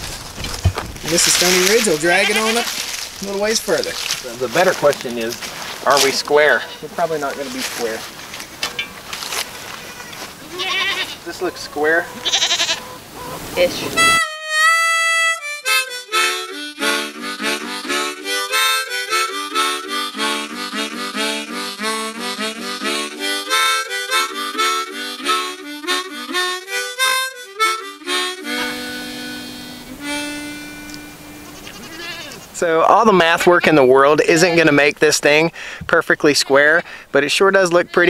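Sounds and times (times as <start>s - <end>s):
harmonica music: 1.0s - 38.0s.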